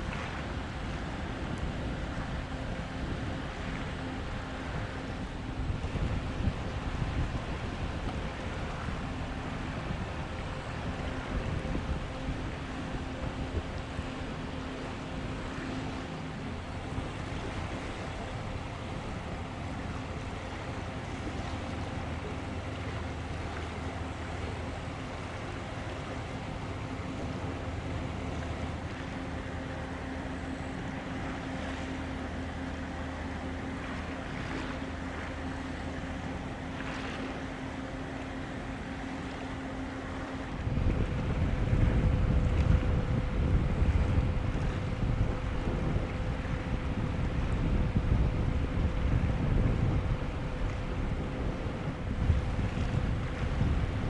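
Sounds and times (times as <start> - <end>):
ship engine hum: 0.0 - 54.0
water noise: 0.0 - 54.0
wind: 0.0 - 54.0.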